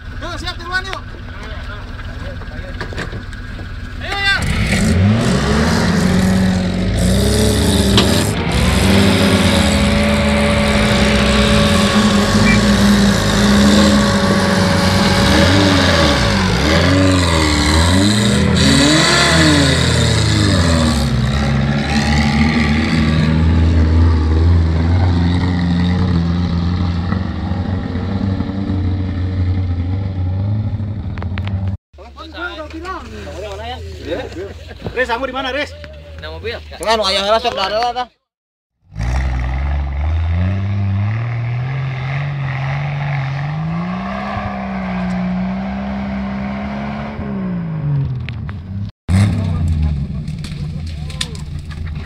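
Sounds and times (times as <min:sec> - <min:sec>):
off-road car engine revving: 0:00.0 - 0:31.8, 0:38.8 - 0:52.0.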